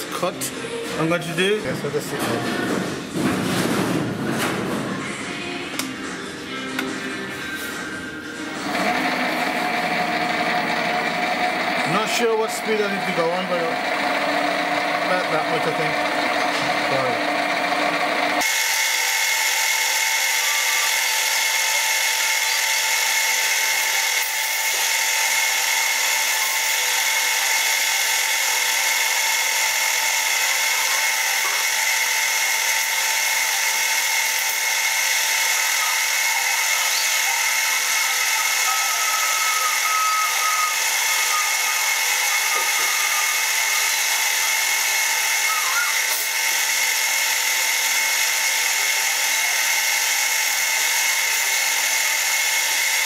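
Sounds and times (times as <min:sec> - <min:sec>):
lathe motor whine: 0:08.1 - 0:53.0
lathe tool cutting metal: 0:08.6 - 0:53.0.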